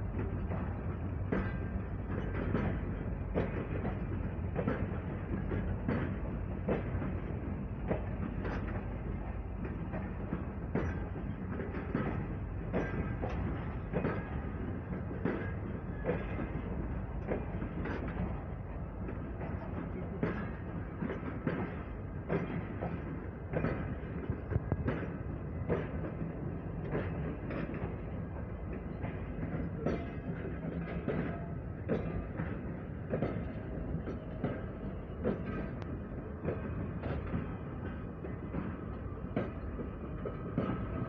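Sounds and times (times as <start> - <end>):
rumble of wheels on rail: 0.0 - 41.0
train wheels clicking over rail joints: 0.0 - 41.0.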